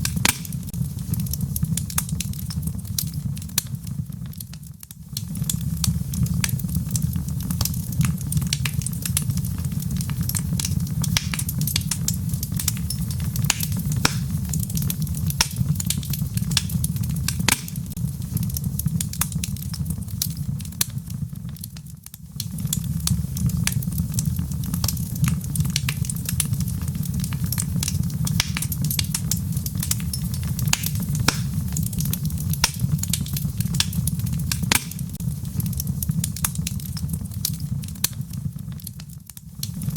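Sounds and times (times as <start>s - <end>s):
fire popping: 0.0s - 39.9s
low rumble of flames: 0.0s - 39.9s
wood fire crackling: 0.0s - 39.9s.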